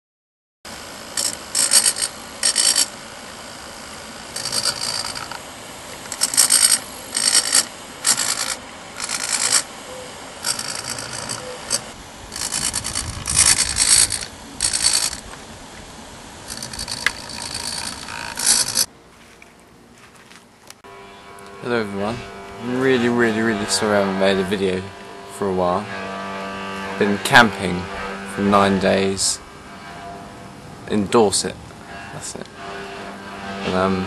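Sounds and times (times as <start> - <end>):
servos whirring: 0.7 - 18.9, 20.9 - 34.0.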